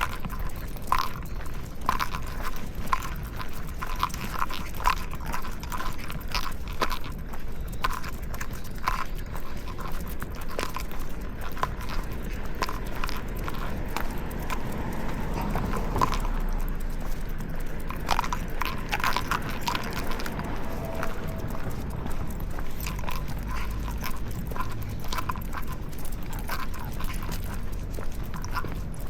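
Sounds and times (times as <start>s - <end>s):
footsteps on pavement: 0.0s - 29.0s
steady low rumble: 0.0s - 29.0s.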